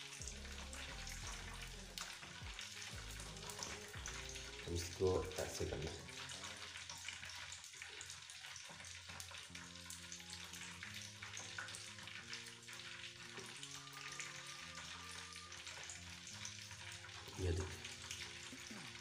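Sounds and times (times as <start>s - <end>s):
cooking oil sizzling: 0.0s - 19.0s
soft background music: 0.0s - 19.0s.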